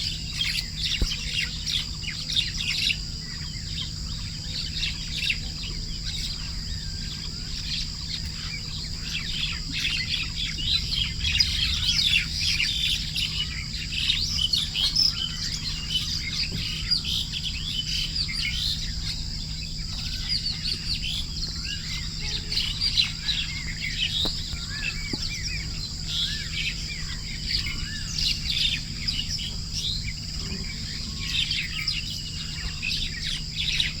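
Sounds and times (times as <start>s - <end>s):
songbirds chirping and singing: 0.0s - 34.0s.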